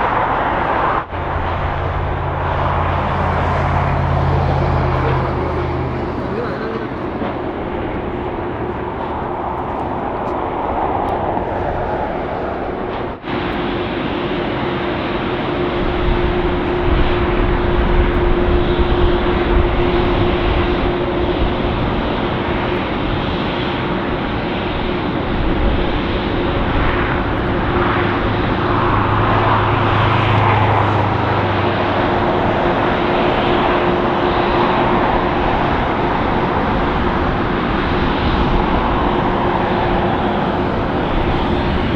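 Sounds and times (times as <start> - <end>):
deep rumble: 0.0 - 41.9
jet engines running: 0.0 - 41.9.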